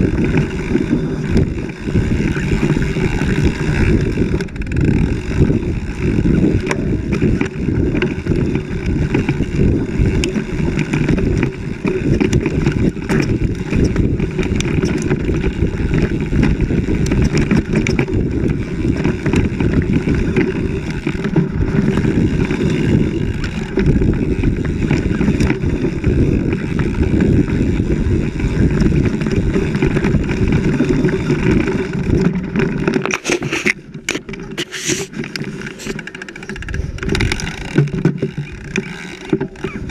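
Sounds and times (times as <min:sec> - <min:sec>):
bike rattling over dirt trail: 0:00.0 - 0:39.9
wind buffeting microphone: 0:00.0 - 0:39.9.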